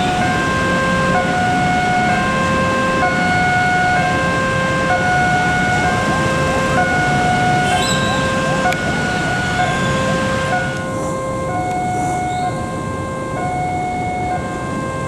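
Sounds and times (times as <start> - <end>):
level crossing alarm two-tone signal: 0.0 - 15.0.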